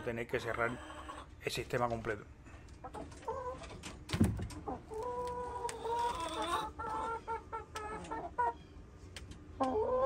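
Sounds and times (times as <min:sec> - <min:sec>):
hen calling and clucking: 0:00.0 - 0:01.4, 0:02.8 - 0:10.0.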